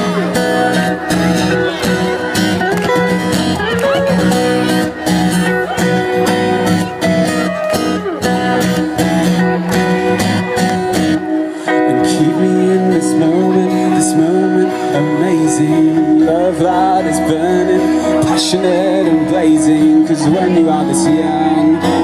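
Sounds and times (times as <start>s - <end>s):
pop-rock band playing: 0.0s - 22.0s
strummed acoustic guitar: 0.0s - 22.0s.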